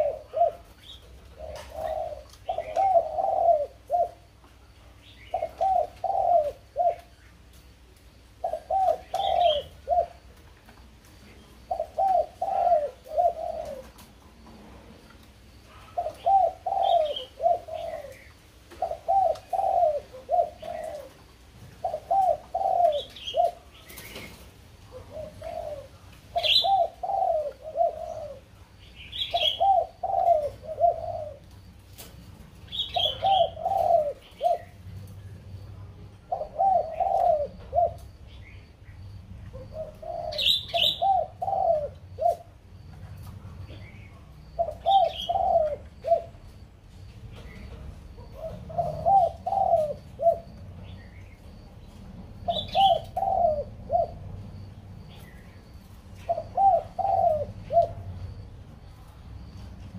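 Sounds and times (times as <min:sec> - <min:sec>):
bird cooing: 0:00.0 - 0:07.3, 0:08.4 - 0:10.4, 0:11.2 - 0:46.6, 0:47.3 - 0:59.7.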